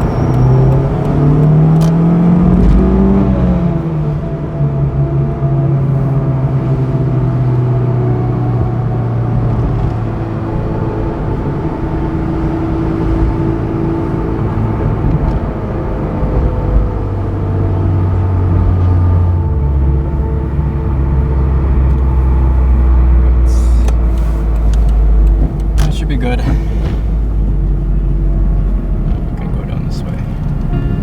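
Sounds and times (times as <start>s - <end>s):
car engine running while driving: 0.0s - 31.0s
tyre and road rumble: 0.0s - 31.0s.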